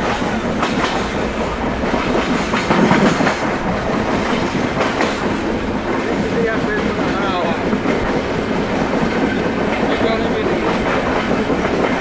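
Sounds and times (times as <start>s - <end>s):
train coach rumbling: 0.0s - 12.0s
wheels clacking over rail joints: 0.0s - 12.0s.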